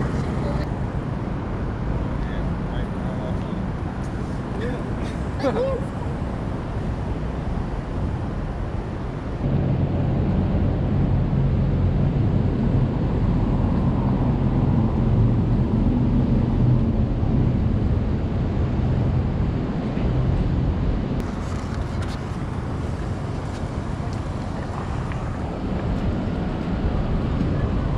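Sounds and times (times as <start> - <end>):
low rumble of traffic: 0.0 - 27.9
wind buffeting microphone: 0.0 - 27.9.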